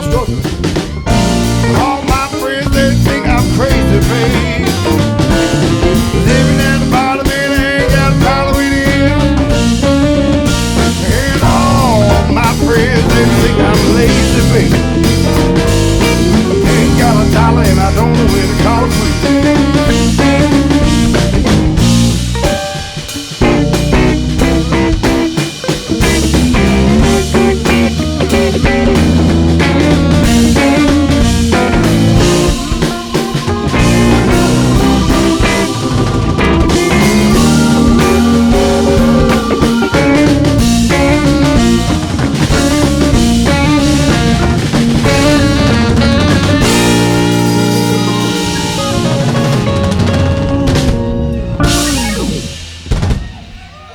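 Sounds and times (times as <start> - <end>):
electric guitar: 0.0 - 53.6
drum kit: 0.0 - 53.9.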